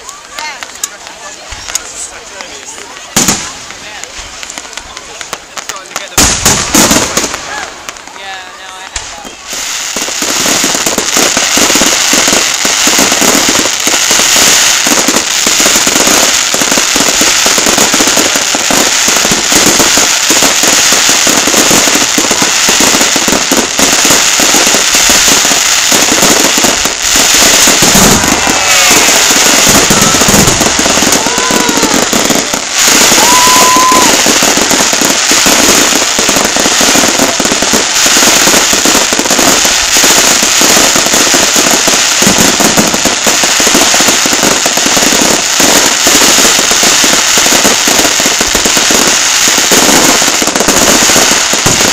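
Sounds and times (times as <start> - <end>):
firework whistling: 0.0 - 51.9
fireworks crackling and popping: 0.0 - 51.9.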